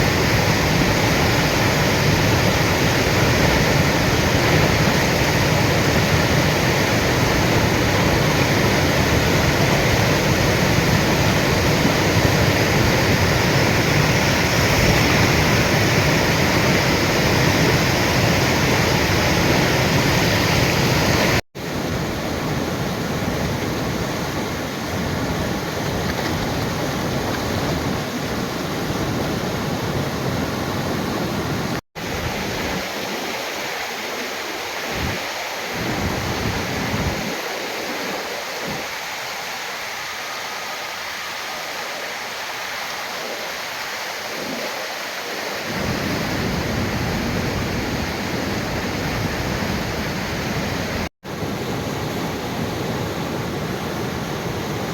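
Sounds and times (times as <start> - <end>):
rushing river water: 0.0 - 54.9.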